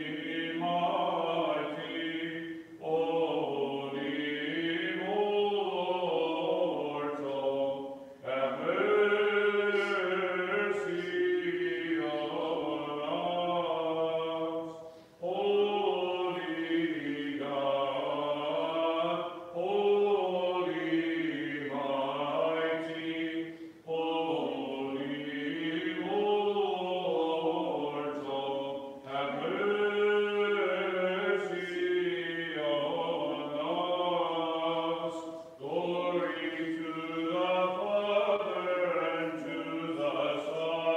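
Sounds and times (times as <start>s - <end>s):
chant sung in long phrases: 0.0s - 40.9s.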